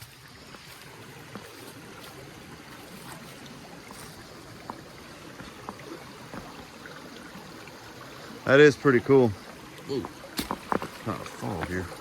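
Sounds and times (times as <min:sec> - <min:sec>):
spring water running: 0:00.0 - 0:12.0.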